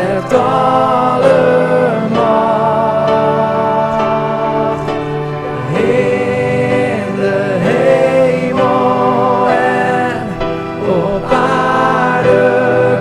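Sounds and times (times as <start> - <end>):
instrumental accompaniment: 0.0 - 13.0
voices singing worship song: 0.0 - 13.0.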